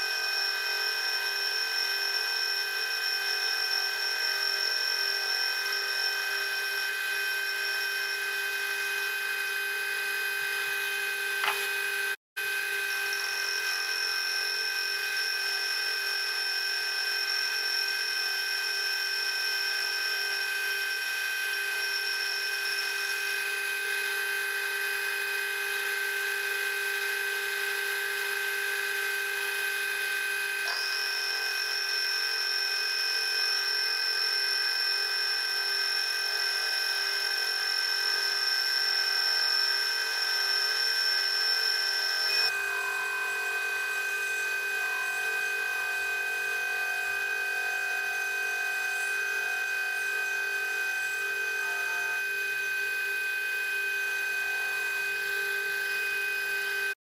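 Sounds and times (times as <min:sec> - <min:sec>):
high-pitched whine: 0:00.0 - 0:57.0
lathe motor and gear whine: 0:00.0 - 0:57.0.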